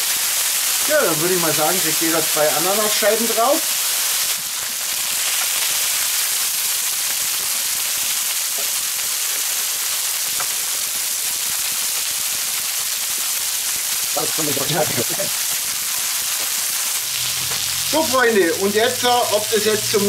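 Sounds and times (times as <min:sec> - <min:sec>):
food sizzling on a griddle: 0:00.0 - 0:20.0.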